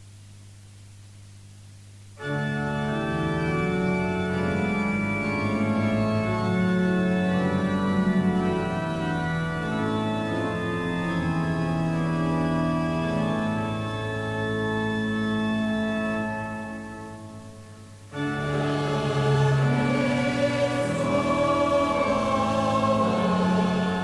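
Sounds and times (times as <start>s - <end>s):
faint tape hiss and hum: 0.0s - 24.0s
church organ chords: 2.2s - 24.0s.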